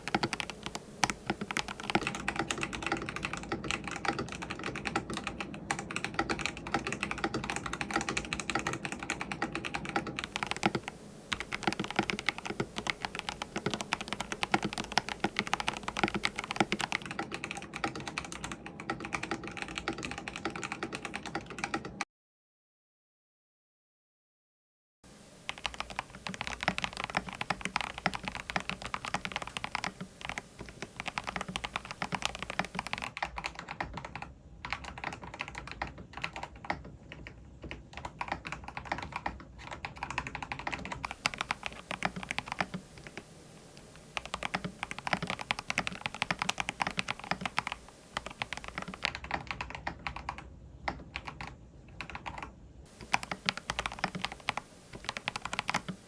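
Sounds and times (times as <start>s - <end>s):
mechanical keyboard typing: 0.0s - 22.0s, 25.4s - 56.0s.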